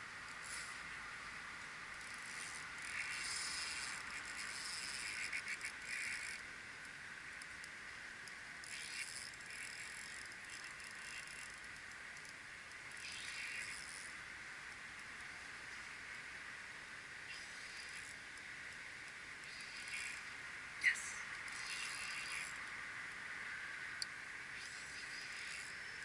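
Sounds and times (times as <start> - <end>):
faint steady hiss: 0.0 - 26.0
fishing reel drag clicking: 0.3 - 0.9, 1.9 - 15.2, 17.3 - 22.7, 24.0 - 26.0.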